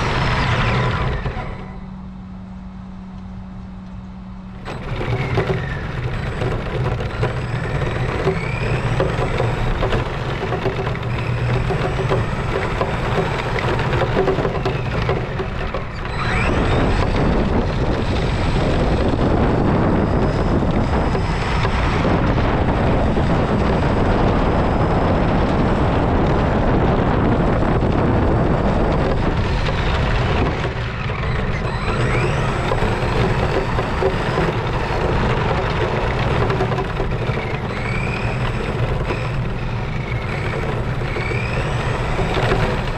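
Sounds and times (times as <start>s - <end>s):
electric motor whining: 0.0s - 42.9s
tyre and wind noise: 0.0s - 42.9s.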